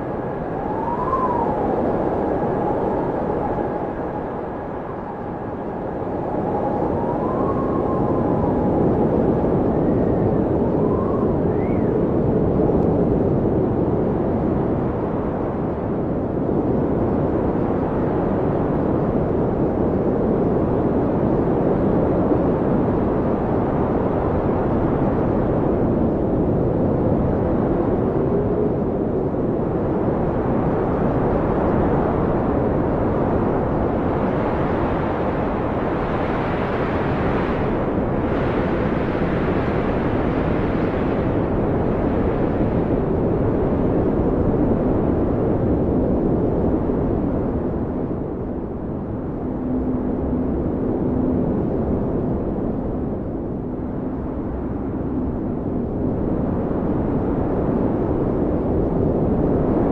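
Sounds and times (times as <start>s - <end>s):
blizzard wind rushing: 0.0s - 59.9s
whistling wind howls: 0.0s - 59.9s.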